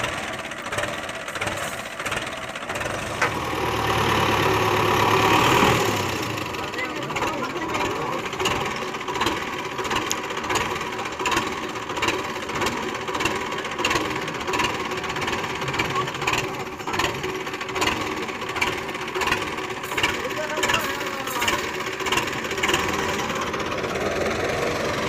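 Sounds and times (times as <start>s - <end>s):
diesel tractor engine idling: 0.0s - 25.0s.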